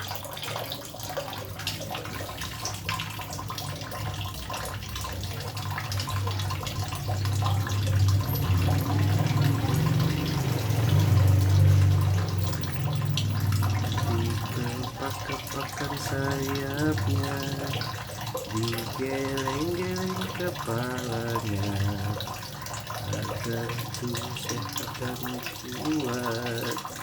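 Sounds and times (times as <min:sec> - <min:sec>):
small water splashes: 0:00.0 - 0:27.0
tap water running into bath: 0:00.0 - 0:27.0.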